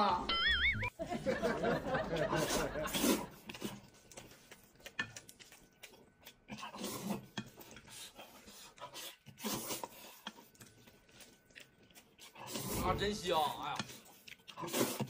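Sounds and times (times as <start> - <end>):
noodles slurped and chewed: 2.1 - 15.0.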